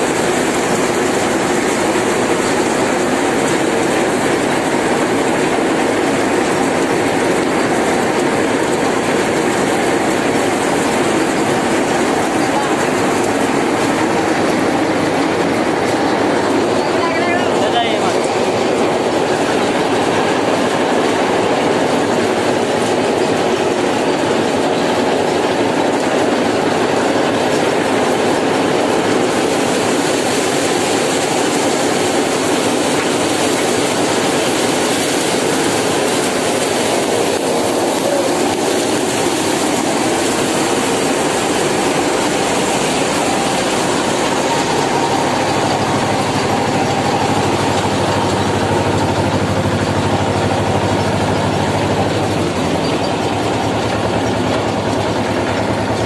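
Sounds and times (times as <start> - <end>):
diesel engine low hum: 0.0 - 56.0
thresher mechanical rattle: 0.0 - 56.0.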